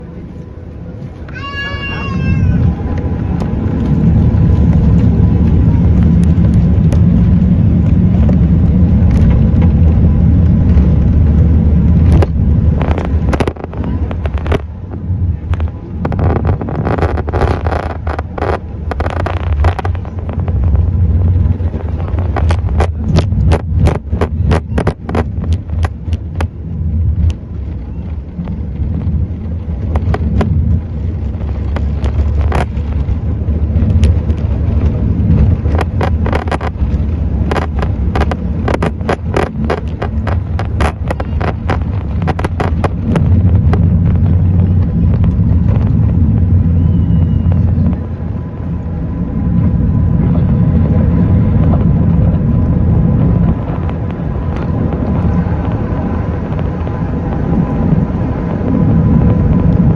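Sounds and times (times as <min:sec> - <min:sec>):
jet engines roaring with crackles: 0:00.0 - 0:59.9.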